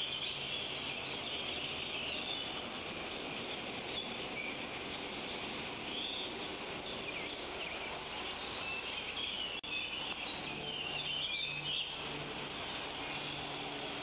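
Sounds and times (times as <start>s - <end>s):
birds chirping: 0.0s - 14.0s
steady outdoor hiss: 0.0s - 14.0s.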